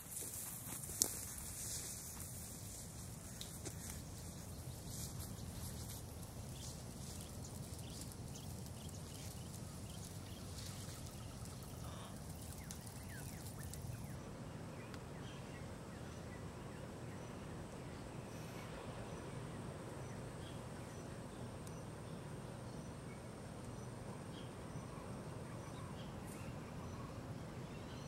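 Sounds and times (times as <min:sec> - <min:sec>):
low rumble and hiss: 0:00.0 - 0:28.0
distant bird chirps: 0:03.5 - 0:28.0.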